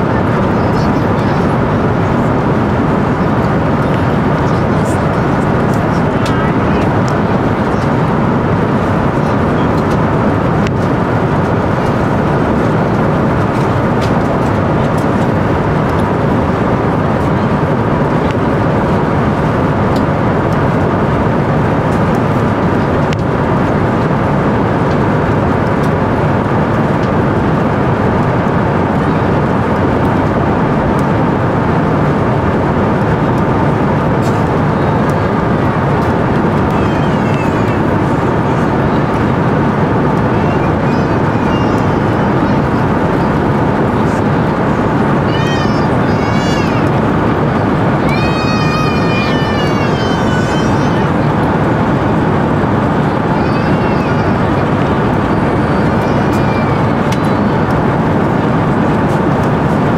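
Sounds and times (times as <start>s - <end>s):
aircraft cabin engine and airflow rush: 0.0s - 59.9s.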